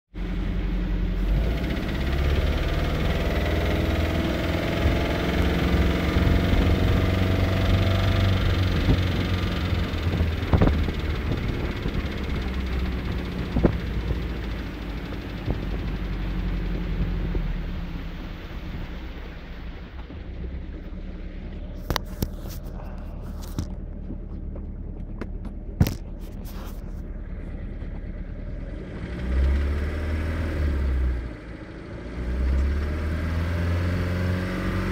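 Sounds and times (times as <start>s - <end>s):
engine running with a knock: 0.2s - 33.3s.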